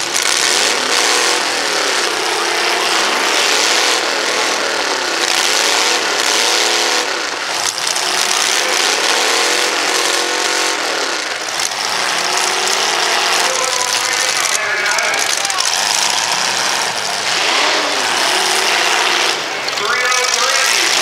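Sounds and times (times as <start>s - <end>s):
car engine revving hard: 0.0s - 21.0s
loud rushing noise: 0.0s - 21.0s.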